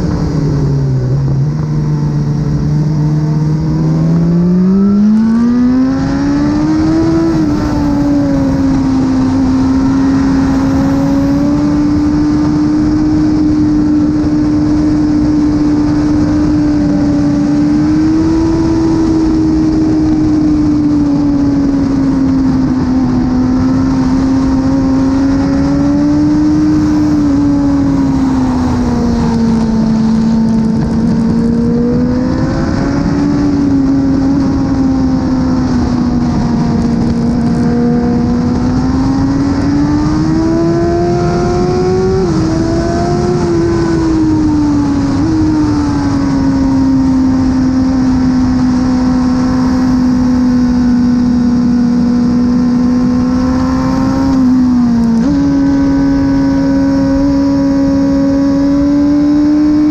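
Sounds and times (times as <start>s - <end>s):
motorcycle engine revving high: 0.0s - 59.9s.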